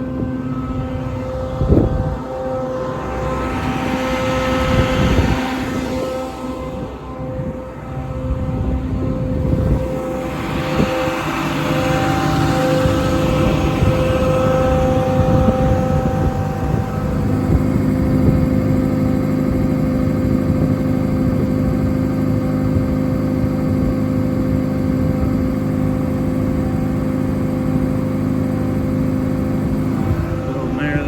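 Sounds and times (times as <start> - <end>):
air compressor drone: 0.0 - 31.0
steady mechanical whine: 0.0 - 31.0.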